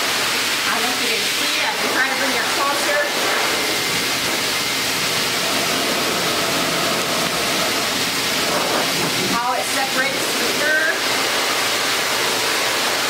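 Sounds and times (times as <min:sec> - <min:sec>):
pet dryer rushing air: 0:00.0 - 0:13.0.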